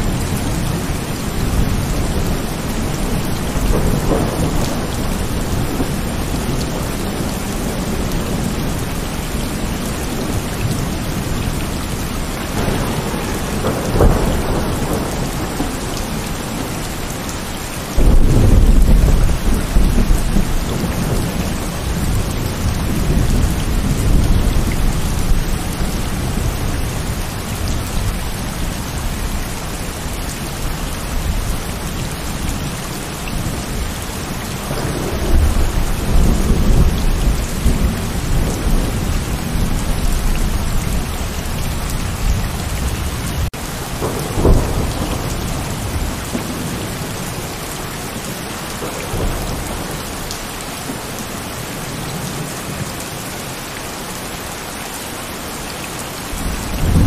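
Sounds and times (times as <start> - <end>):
rolling thunder: 0.0 - 47.6, 48.2 - 51.0, 56.4 - 57.0
heavy rain falling: 0.0 - 57.0.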